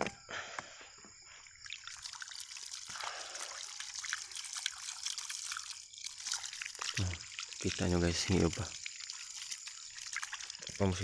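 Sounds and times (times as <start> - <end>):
water trickling from hose: 1.4 - 11.0.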